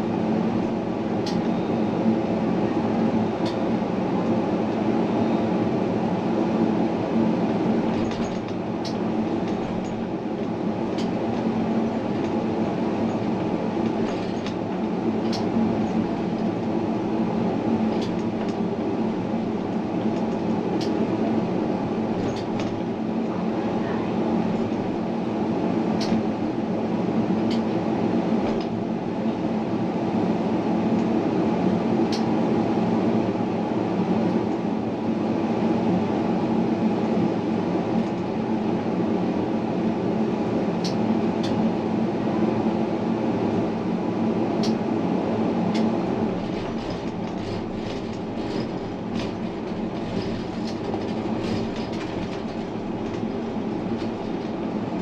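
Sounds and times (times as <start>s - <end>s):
tram rumbling on rails: 0.0s - 55.0s.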